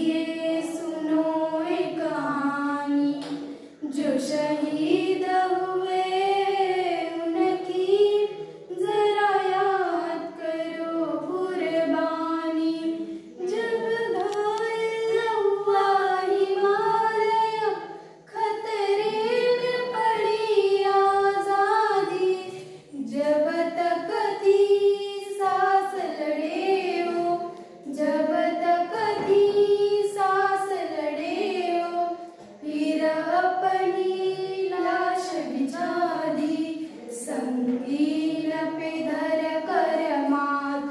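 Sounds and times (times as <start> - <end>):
girls singing unaccompanied: 0.0 - 40.9.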